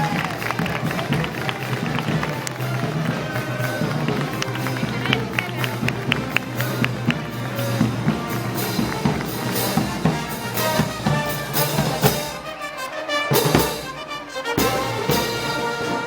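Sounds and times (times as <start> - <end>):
drum beat: 0.0 - 12.7, 13.3 - 16.0
brass band playing: 0.0 - 16.0.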